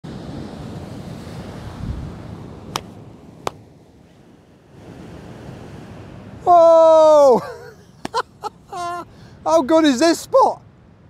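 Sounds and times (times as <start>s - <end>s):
wind rumbling on microphone: 0.1s - 9.4s.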